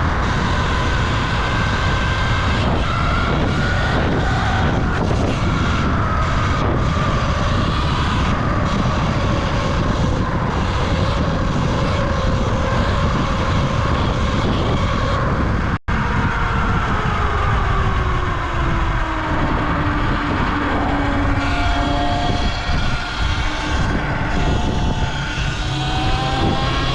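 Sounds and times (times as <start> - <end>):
electric motor whine: 0.0 - 15.7, 18.5 - 26.9
wind rush on microphone: 0.0 - 26.9.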